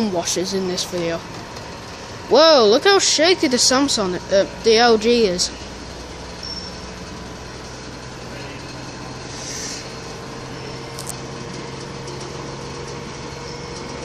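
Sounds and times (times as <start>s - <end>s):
washing machine spinning hum and whine: 0.0s - 14.0s.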